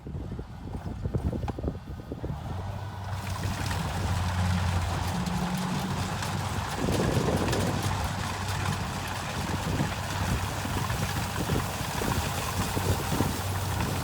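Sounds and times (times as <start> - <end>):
harvester diesel engine running: 0.3 - 14.0.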